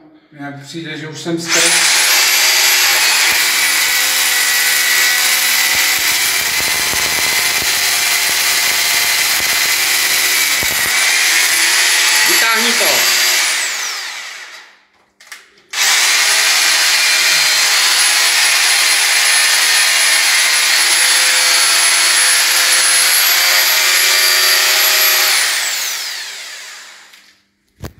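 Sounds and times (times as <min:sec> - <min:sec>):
rotary hammer drill boring: 0:01.5 - 0:14.7, 0:15.7 - 0:27.3.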